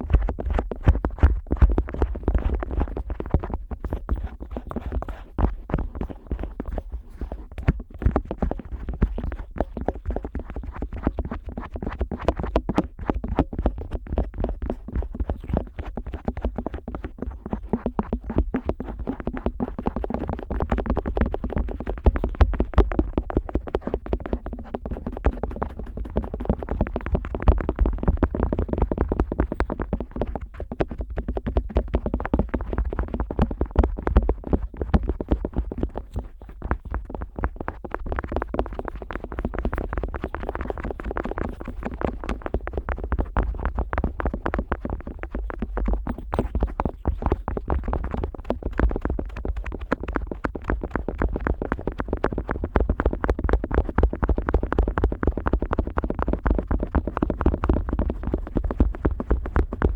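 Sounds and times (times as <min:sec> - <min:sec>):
scraping on microphone ear: 0:00.0 - 0:55.3.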